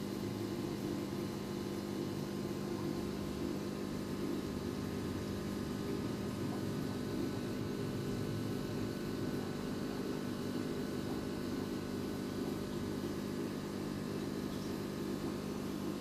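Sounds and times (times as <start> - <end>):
aquarium air pump hum: 0.0 - 16.0.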